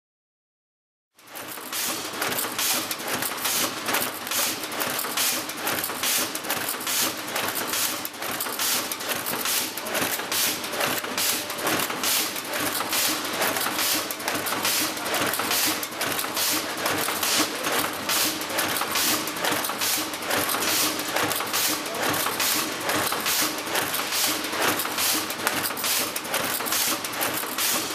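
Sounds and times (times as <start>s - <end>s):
machine clattering: 1.2s - 27.9s.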